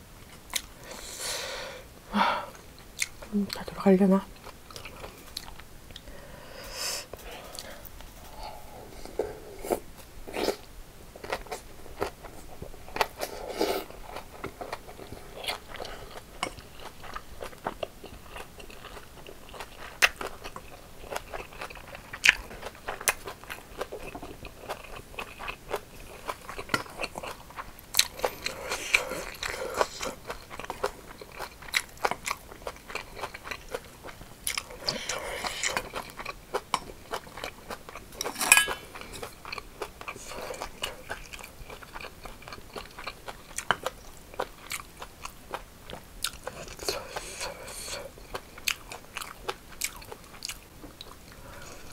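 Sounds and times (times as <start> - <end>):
chewing and crunching: 4.3 - 6.1, 9.0 - 51.9.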